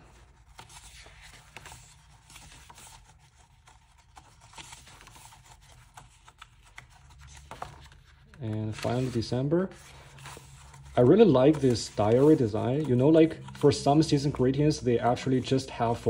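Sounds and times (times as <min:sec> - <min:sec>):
paper pages turning: 0:00.0 - 0:16.0.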